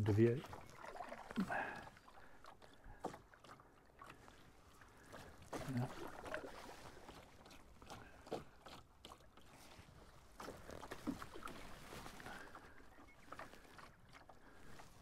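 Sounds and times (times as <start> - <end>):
paddle splashes and drips: 0.0 - 15.0.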